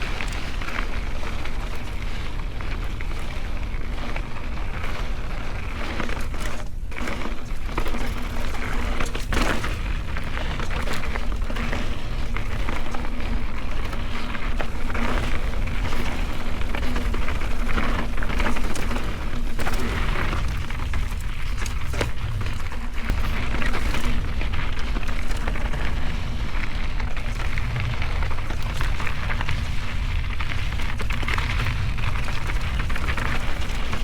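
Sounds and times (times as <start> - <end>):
bike rattling clicks and knocks: 0.0 - 34.0
bike tyres crunching over dirt: 0.0 - 34.0.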